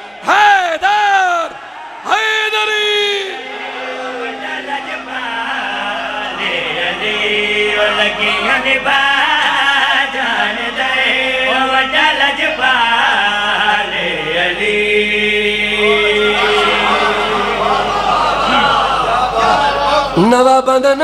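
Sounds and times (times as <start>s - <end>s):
men singing and chanting: 0.0s - 21.0s.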